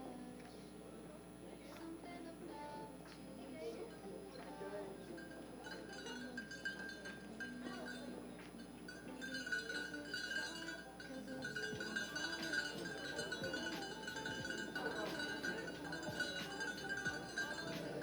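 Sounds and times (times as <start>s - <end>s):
quiet music with held notes: 0.0s - 18.0s.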